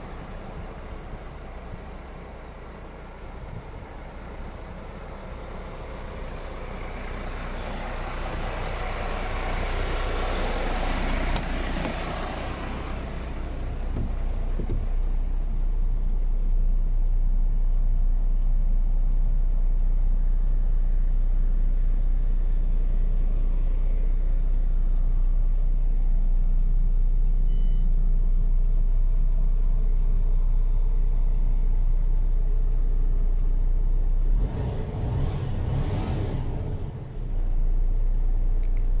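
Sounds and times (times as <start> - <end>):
truck diesel engine idling: 0.0 - 34.3.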